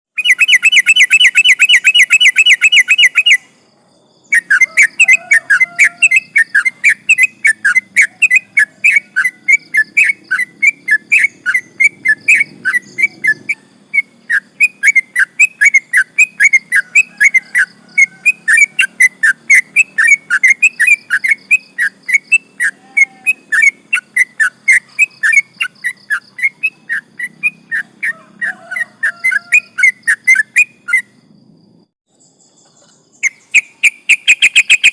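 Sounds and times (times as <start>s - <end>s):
bulbul whistled song: 0.1s - 3.6s, 4.2s - 31.2s, 33.1s - 34.9s
bird fast trill: 0.2s - 3.6s, 4.2s - 31.4s, 32.1s - 34.9s.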